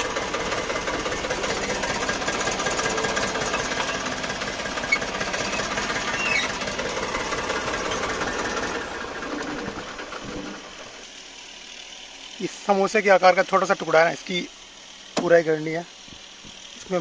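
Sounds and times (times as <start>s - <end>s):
tractor diesel engine clattering: 0.0s - 17.0s.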